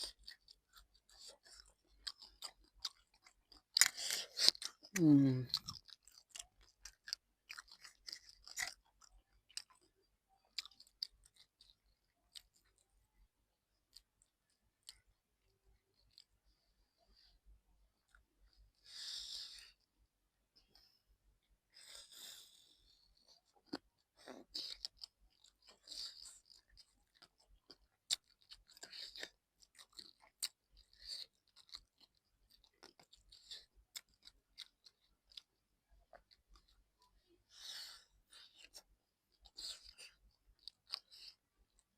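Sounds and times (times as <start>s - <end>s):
person chewing: 0.0s - 12.8s, 13.8s - 17.4s, 18.0s - 19.9s, 21.8s - 41.9s.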